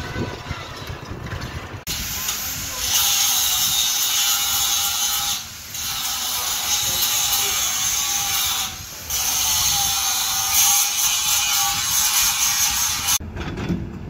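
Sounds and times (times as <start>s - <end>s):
angle grinder grinding steel: 1.9s - 13.2s.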